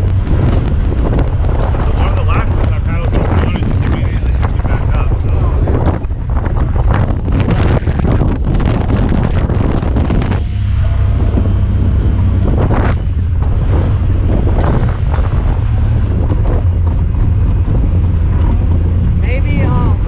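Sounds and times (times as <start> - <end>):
knocks and rattles: 0.0 - 19.2
off-road vehicle engine droning: 0.0 - 20.0
wind noise on microphone: 0.0 - 20.0.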